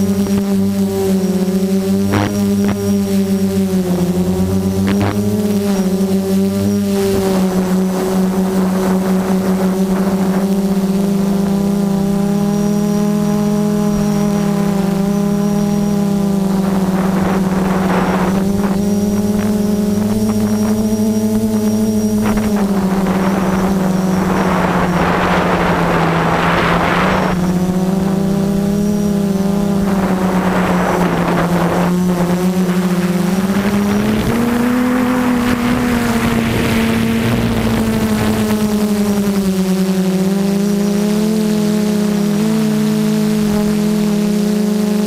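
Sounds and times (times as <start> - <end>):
quadcopter motors humming: 0.0 - 45.0
wind over microphone: 2.0 - 39.7.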